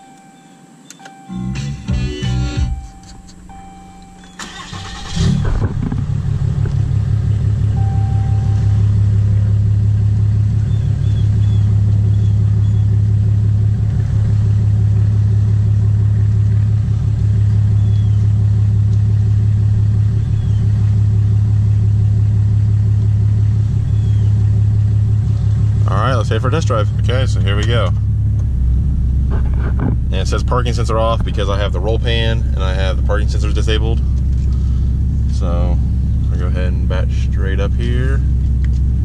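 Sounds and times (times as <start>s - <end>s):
diesel engine cranking and idling: 0.7s - 39.0s.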